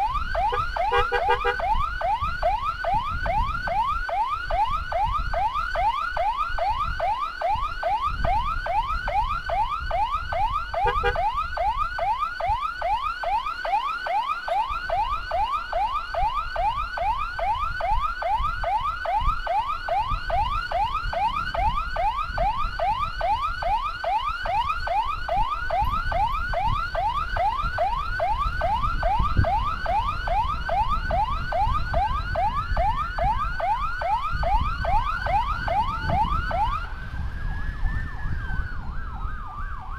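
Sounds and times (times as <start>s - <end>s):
electronic siren yelp: 0.0s - 39.9s
road and wind rumble: 0.0s - 39.9s
slower siren tone: 0.0s - 39.9s.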